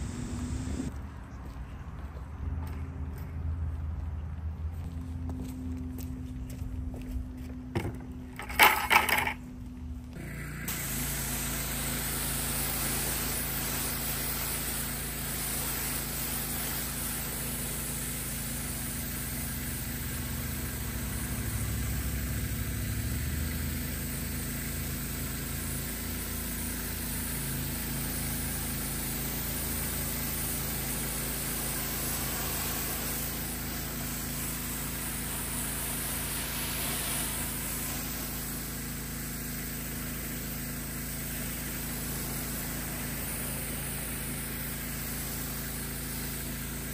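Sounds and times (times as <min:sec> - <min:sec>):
hiss of water jet: 0:00.0 - 0:00.9, 0:10.2 - 0:46.9
pressure washer motor hum: 0:00.0 - 0:00.9, 0:07.7 - 0:09.4, 0:10.0 - 0:46.9.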